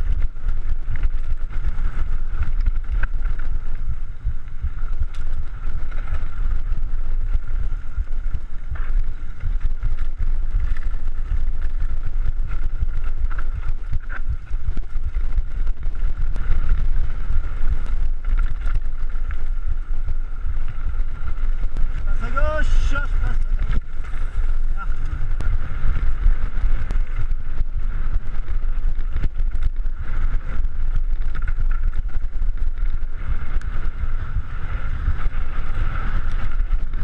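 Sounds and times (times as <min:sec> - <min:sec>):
bike rumbling and rattling over trail: 0:00.0 - 0:37.0
wind buffeting microphone: 0:00.0 - 0:37.0.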